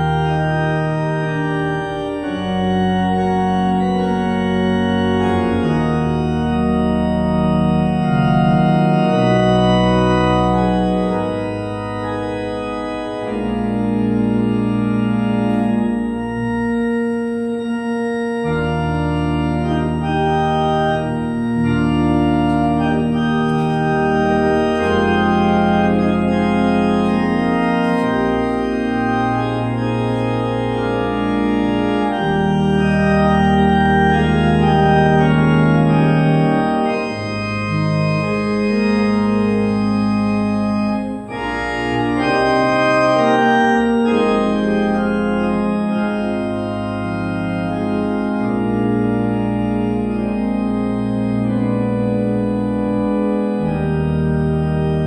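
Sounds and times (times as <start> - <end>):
organ playing sustained chords: 0.0 - 55.0.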